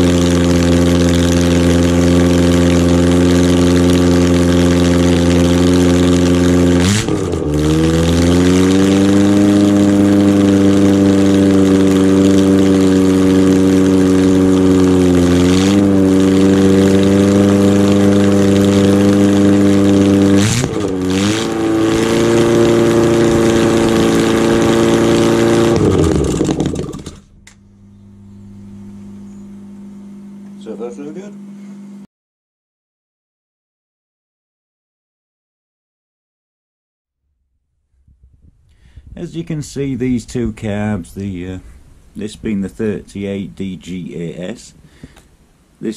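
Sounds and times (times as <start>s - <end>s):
car engine idling: 0.0s - 30.0s, 38.1s - 45.9s.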